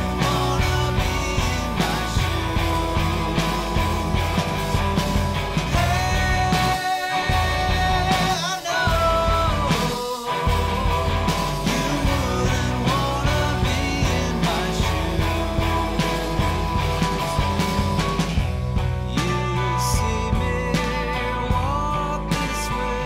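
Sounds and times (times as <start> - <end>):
rock music: 0.0 - 23.0.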